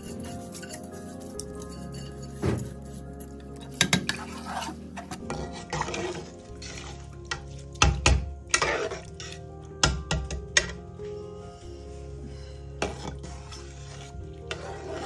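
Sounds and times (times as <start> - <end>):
metal spoon scraping a pot: 0.0 - 10.8, 12.8 - 15.0.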